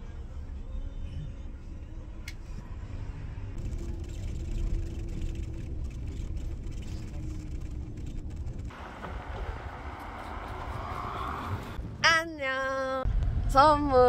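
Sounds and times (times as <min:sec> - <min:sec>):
car road and engine rumble: 0:00.0 - 0:12.1.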